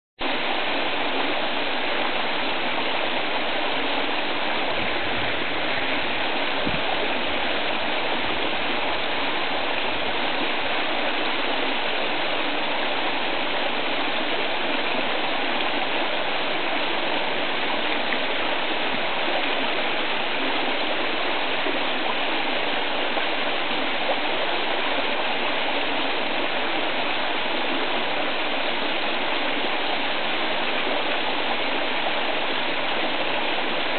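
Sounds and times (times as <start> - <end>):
river running over stones: 0.2 - 33.9.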